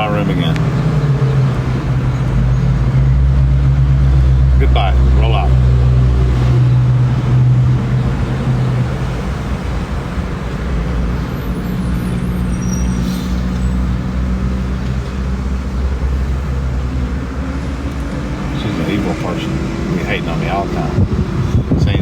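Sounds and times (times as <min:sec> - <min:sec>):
car engine hum: 0:00.0 - 0:22.0
road noise rushing: 0:00.0 - 0:22.0.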